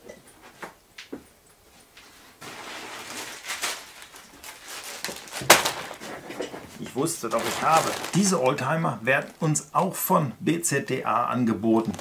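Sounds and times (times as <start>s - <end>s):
rustling and shuffling: 0.2s - 10.1s, 11.4s - 12.0s.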